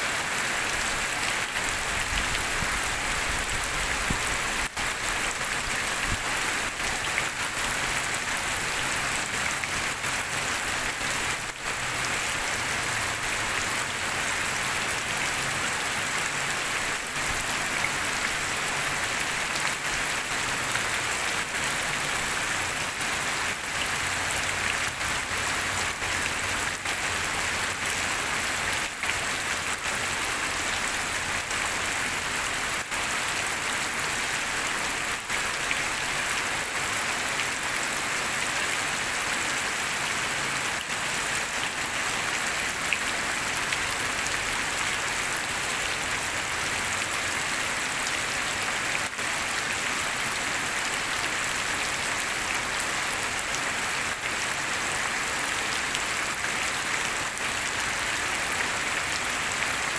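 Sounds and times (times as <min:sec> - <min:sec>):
heavy rain splashing on water: 0:00.0 - 0:59.9.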